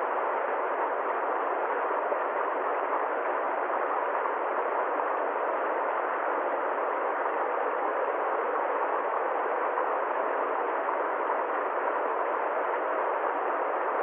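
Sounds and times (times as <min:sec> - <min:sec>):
steady mid-pitched noise: 0:00.0 - 0:14.0.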